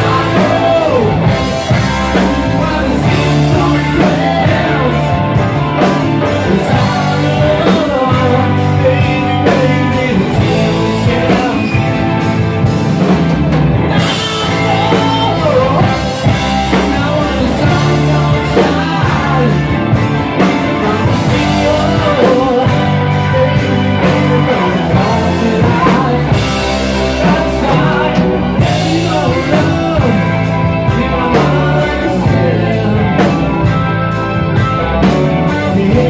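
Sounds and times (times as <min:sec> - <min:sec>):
person singing: 0:00.0 - 0:12.2, 0:13.9 - 0:33.8, 0:35.4 - 0:36.0
drum kit: 0:00.0 - 0:36.0
electric bass: 0:00.0 - 0:36.0
electric guitar: 0:00.0 - 0:36.0.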